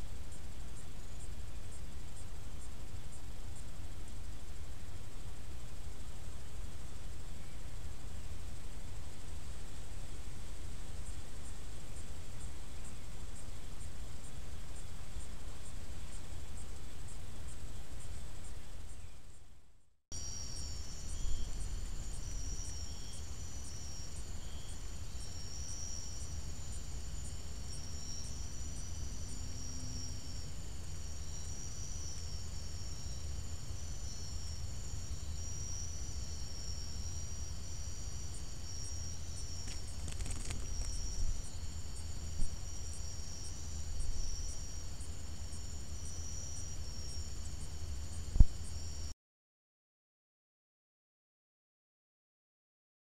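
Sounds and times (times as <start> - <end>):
crickets trilling: 0.0 - 49.1.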